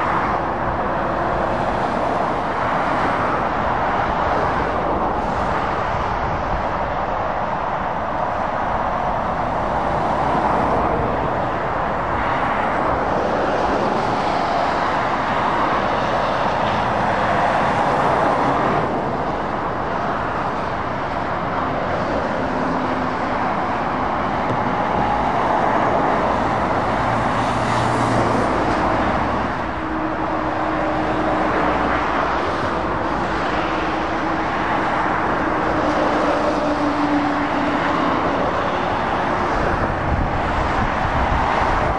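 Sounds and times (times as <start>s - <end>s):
diesel truck engines: 0.0s - 41.9s
tyres rushing on tarmac: 0.0s - 41.9s.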